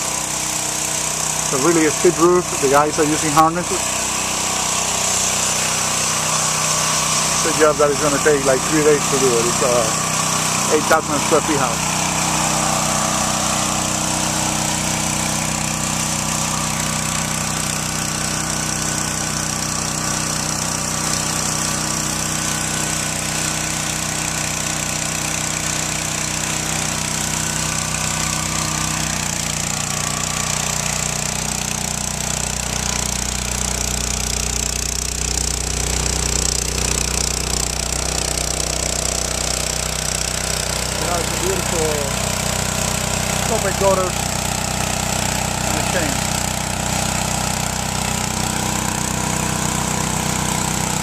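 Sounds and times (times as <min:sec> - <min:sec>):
pressure washer engine running: 0:00.0 - 0:51.0
water jet hissing on roof tiles: 0:00.0 - 0:51.0.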